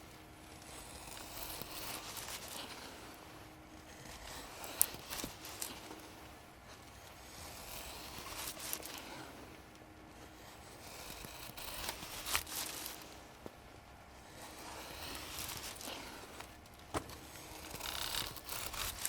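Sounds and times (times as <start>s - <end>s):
knife scraping wood: 0.4s - 9.6s, 10.2s - 19.0s.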